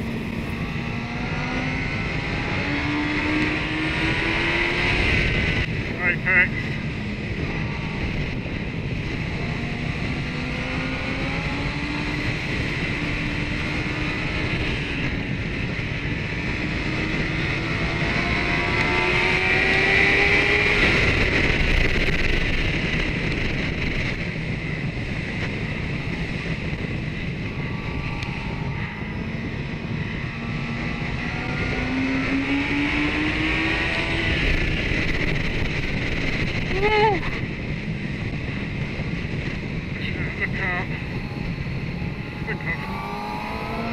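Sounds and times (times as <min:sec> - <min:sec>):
motorcycle engine accelerating: 0:00.0 - 0:43.9
wind rush on microphone: 0:00.0 - 0:43.9.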